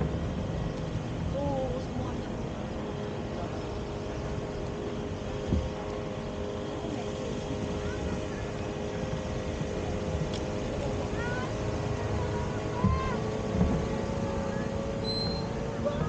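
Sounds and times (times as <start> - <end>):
low rumbling: 0.0 - 16.0
two-tone mechanical hum: 0.0 - 16.0
faint distant voices: 0.4 - 16.0.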